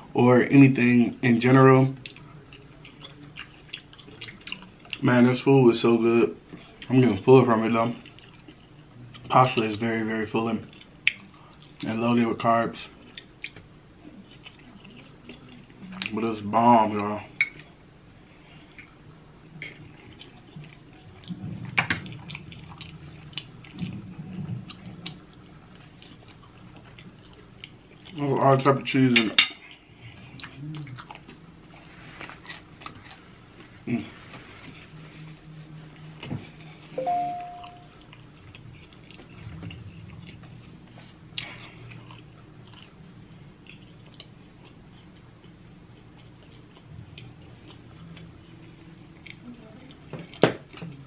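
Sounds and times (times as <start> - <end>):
low steady hum: 0.0 - 51.0
chewing and wet mouth sounds: 1.6 - 5.5, 6.4 - 51.0.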